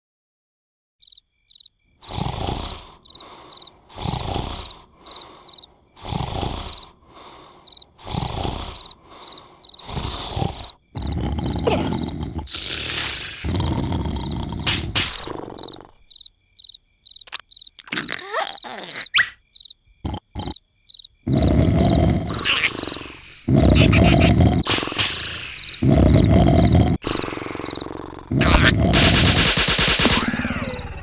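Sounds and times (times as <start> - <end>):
crickets chirping: 1.0 - 31.0
cartoon snoring: 2.0 - 16.1, 17.3 - 19.4, 20.0 - 20.6, 21.2 - 31.0.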